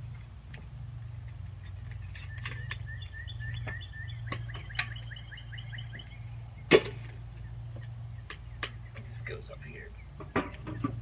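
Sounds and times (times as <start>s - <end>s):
steady low hum: 0.0s - 11.0s
bird chirping: 1.1s - 11.0s.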